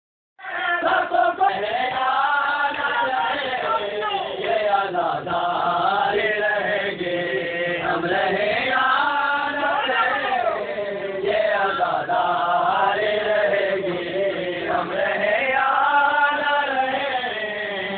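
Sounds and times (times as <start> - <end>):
men chanting: 0.4 - 17.9.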